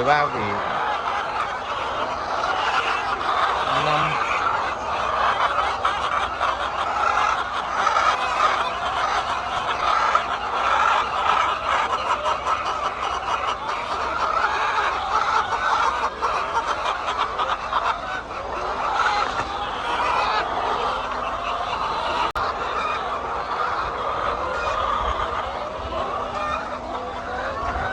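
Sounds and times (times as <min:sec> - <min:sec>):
flock of chickens clucking: 0:00.0 - 0:27.9.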